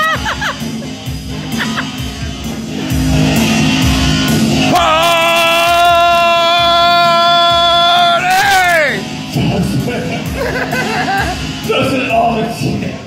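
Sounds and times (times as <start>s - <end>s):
rock band playing loudly: 0.0s - 12.6s.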